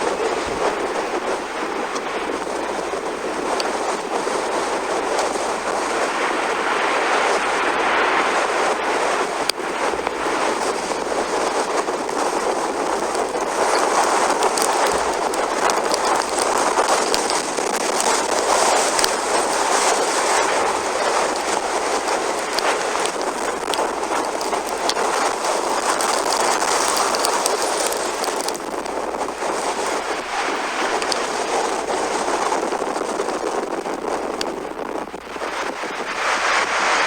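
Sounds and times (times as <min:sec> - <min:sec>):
faint ticks and crackles: 0:00.0 - 0:37.0
tornado wind roaring: 0:00.0 - 0:37.0.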